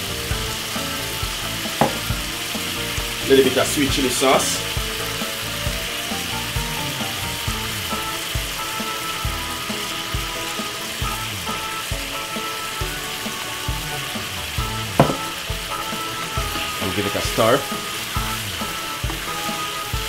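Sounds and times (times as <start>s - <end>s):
chicken sizzling in a pan: 0.0s - 20.0s
soft background music with beat: 0.0s - 20.0s
sauce being poured: 0.3s - 20.0s.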